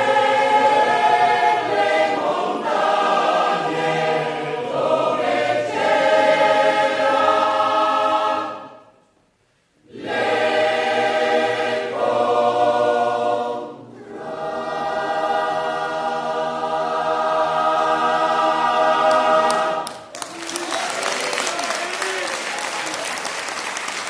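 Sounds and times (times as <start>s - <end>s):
choir singing a cappella: 0.0s - 9.0s, 9.8s - 20.1s.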